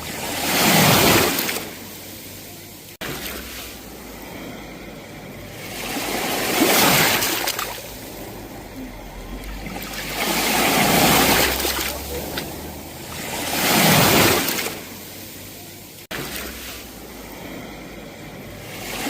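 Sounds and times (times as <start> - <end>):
sea waves breaking on shore: 0.0 - 19.0.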